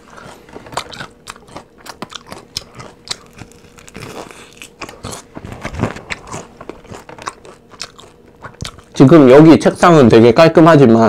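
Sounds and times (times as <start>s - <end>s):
person crunching fried chicken: 0.0s - 9.0s.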